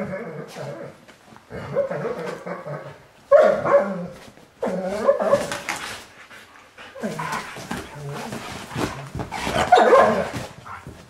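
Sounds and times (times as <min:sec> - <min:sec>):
dogs barking and whining: 0:00.0 - 0:06.1, 0:06.7 - 0:11.0.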